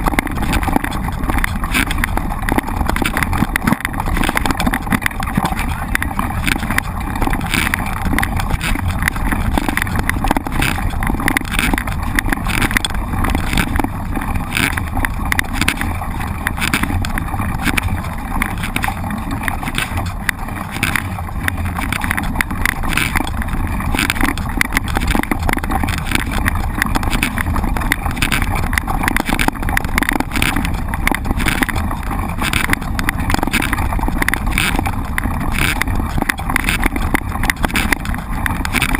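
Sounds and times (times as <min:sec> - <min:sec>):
rattles and knocks: 0:00.0 - 0:38.9
steady rumbling: 0:00.0 - 0:38.9.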